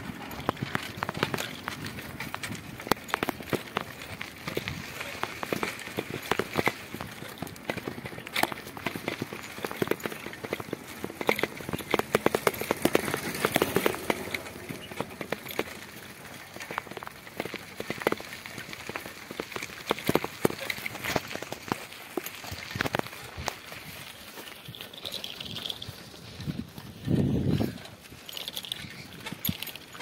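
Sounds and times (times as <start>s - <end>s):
bicycle rattling on gravel road: 0.0s - 30.0s.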